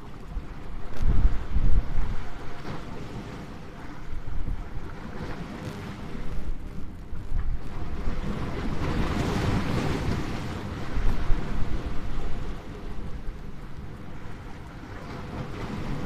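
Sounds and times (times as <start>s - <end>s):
waves breaking over rocks: 0.0s - 16.0s
wind buffeting microphone: 0.0s - 16.0s.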